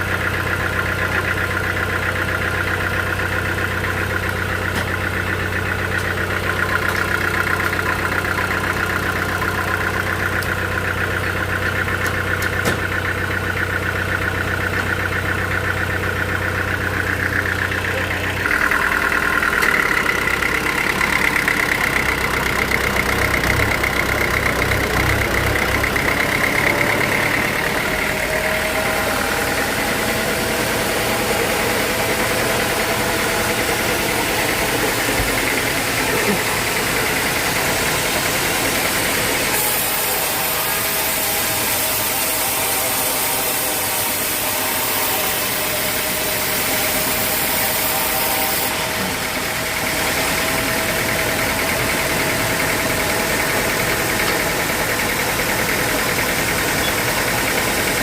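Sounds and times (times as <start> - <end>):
sawmill machinery high whine: 0.0 - 58.0
sawmill machinery low hum: 0.0 - 58.0.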